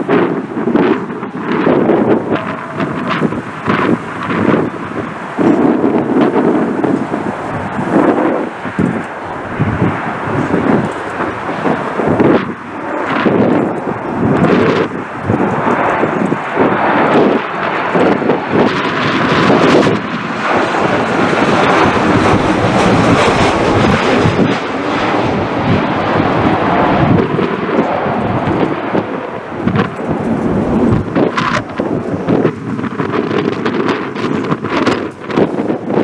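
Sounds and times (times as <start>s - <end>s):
jet engine noise: 0.0s - 36.0s
wind buffeting microphone: 0.0s - 36.0s.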